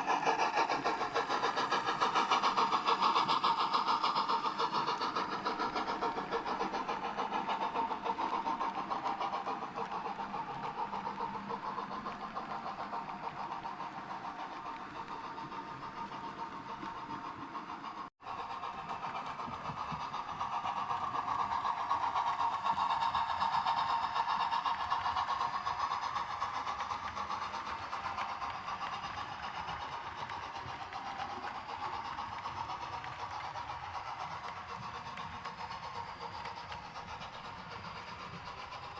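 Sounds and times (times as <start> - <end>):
model locomotive diesel engine sound: 0.0 - 38.9.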